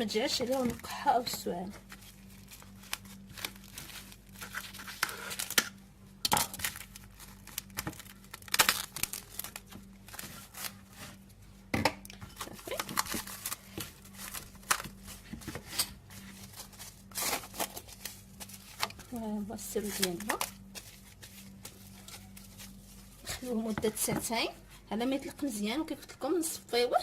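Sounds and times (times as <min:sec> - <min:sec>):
faint low hum: 0:00.0 - 0:27.0
cling film rustling and tearing: 0:00.4 - 0:11.3, 0:12.3 - 0:23.6.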